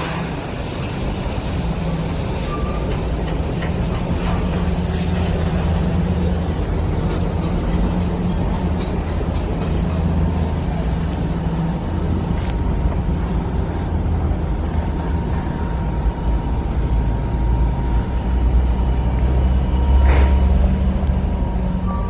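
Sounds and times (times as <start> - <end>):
excavator diesel engine drone: 0.0 - 22.0.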